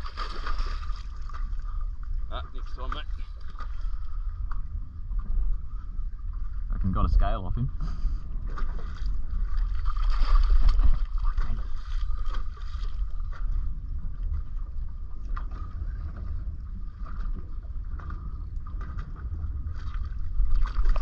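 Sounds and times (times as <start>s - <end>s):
water splashing against hull: 0.0s - 21.0s.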